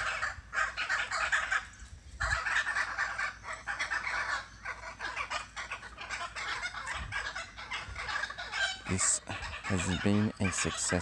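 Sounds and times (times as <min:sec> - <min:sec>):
harsh chattering bird calls: 0:00.0 - 0:11.0.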